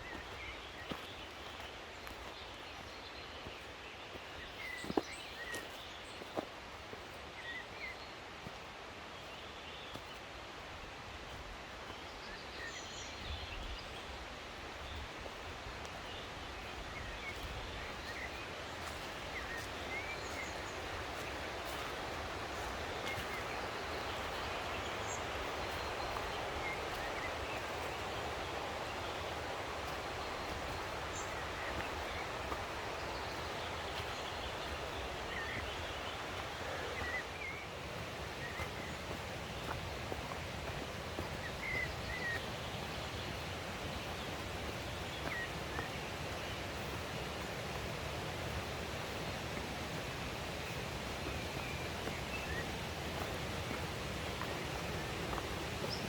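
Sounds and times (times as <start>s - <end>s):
stream water rushing: 10.2s - 56.0s.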